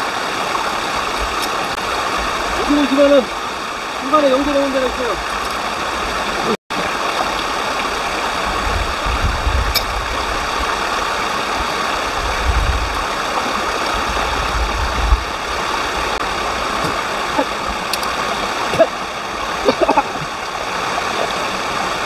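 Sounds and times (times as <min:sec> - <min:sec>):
stream water over rocks: 0:00.0 - 0:22.0.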